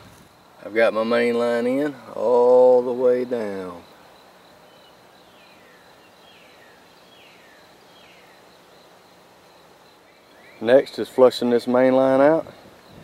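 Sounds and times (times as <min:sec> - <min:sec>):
insect drone: 0:00.0 - 0:13.0.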